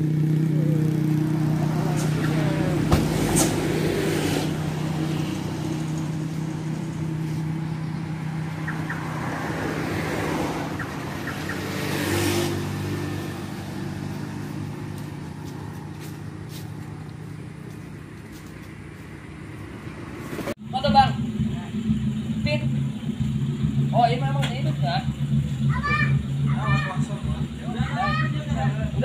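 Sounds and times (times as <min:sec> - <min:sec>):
vehicle engine idling: 0:00.0 - 0:29.0
vehicle passing by: 0:00.0 - 0:29.0.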